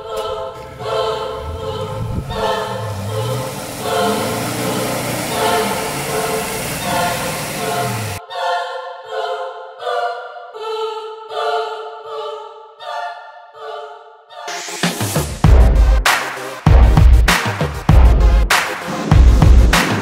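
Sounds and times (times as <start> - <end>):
choir singing pulsing phrases: 0.0 - 16.9.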